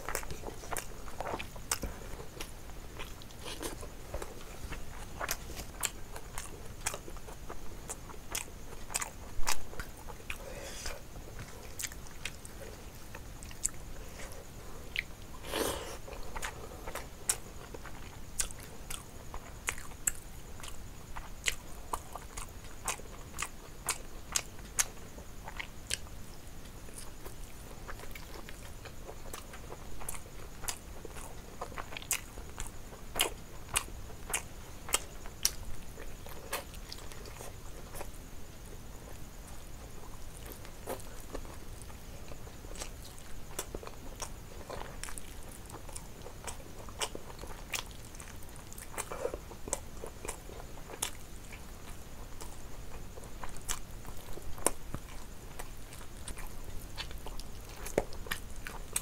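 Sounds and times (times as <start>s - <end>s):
chewing food: 0.0s - 59.0s.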